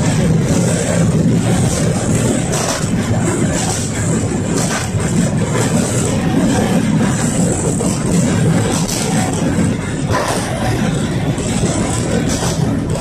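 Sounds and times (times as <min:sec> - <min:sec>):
tram interior low rumble: 0:00.0 - 0:13.0.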